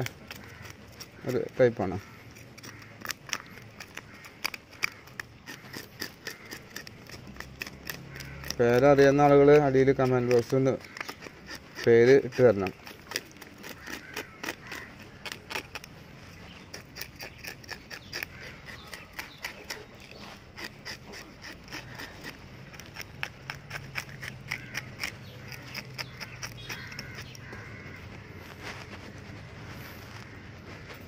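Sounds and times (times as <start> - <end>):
knife scraping fish scales: 0.0 - 31.0.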